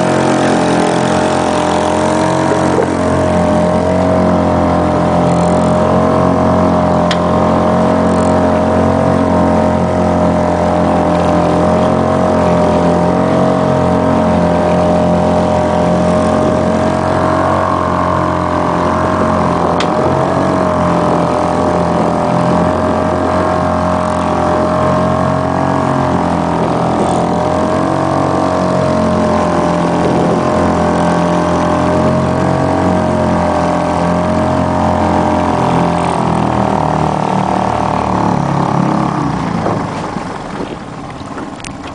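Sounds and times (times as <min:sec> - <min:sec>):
motorboat engine droning: 0:00.0 - 0:41.9.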